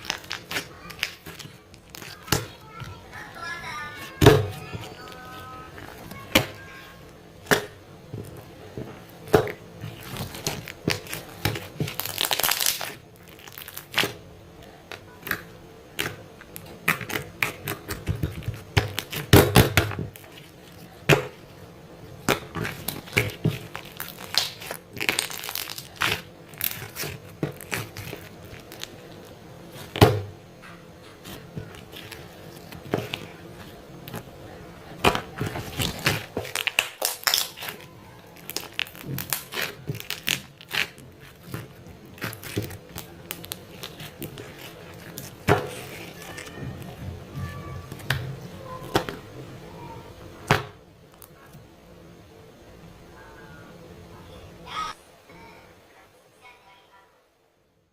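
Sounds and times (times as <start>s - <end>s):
crinkling and rustling: 0.0s - 49.6s.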